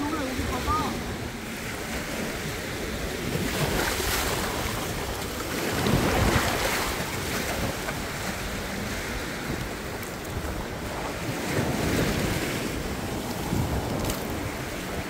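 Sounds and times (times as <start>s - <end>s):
surf washing onto beach: 0.0s - 15.0s
wind on microphone: 0.0s - 15.0s.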